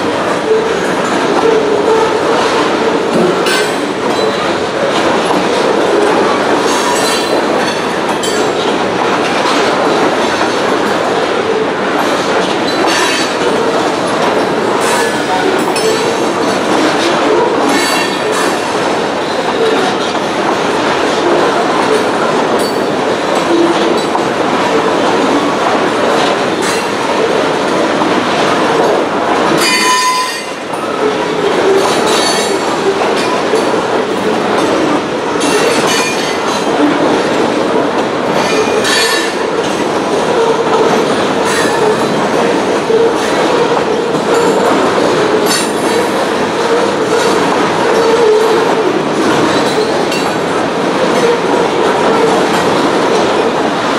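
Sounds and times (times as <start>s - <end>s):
freight train rumbling past: 0.0s - 53.9s
wheels clattering over rail joints: 0.0s - 53.9s.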